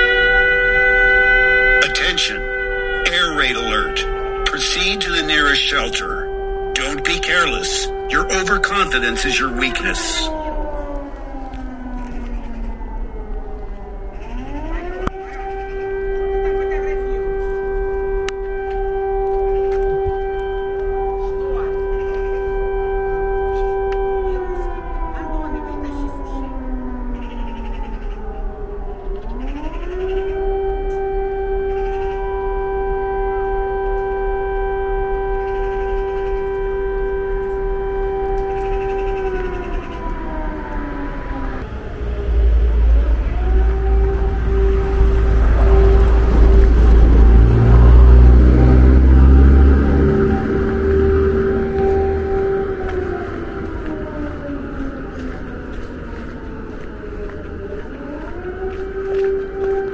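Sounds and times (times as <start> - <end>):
air raid siren wailing: 0.0 - 59.9.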